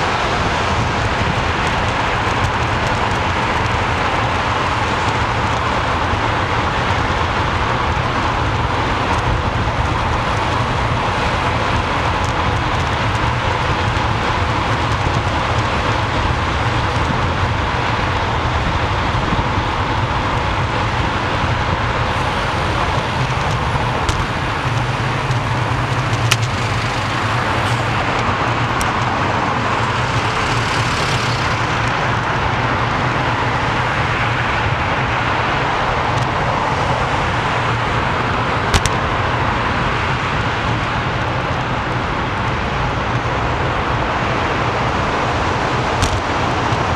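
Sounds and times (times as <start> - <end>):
road traffic: 0.0 - 46.9
wind on microphone: 0.0 - 46.9.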